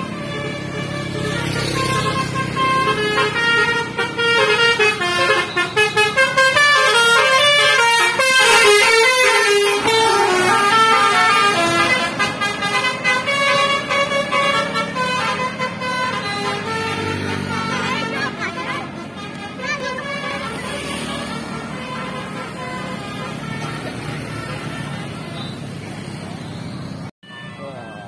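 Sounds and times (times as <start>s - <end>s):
musical bus horn melody: 0.0s - 25.8s.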